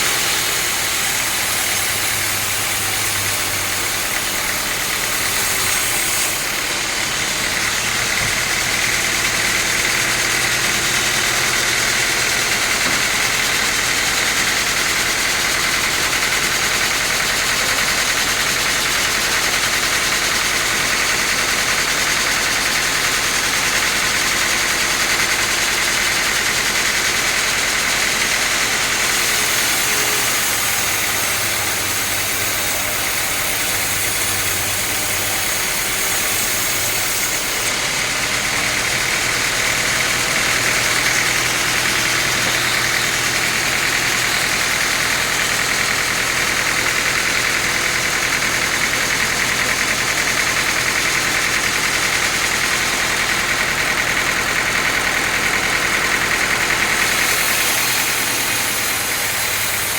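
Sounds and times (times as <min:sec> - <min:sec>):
sawmill saw cutting wood: 0:00.0 - 0:59.9.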